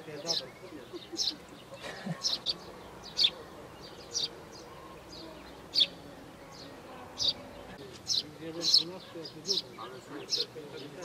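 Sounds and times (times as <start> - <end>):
small songbird chirping: 0.0 - 11.0.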